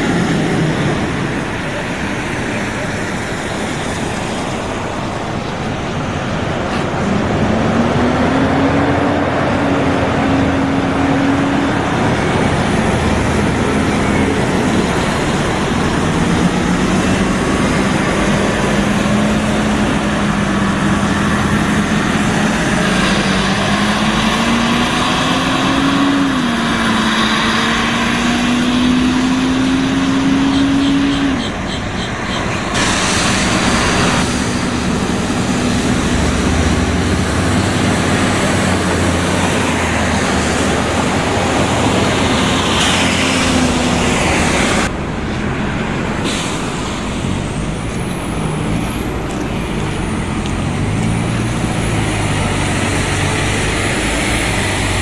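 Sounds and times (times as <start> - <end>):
diesel bus accelerating: 0.0 - 55.0.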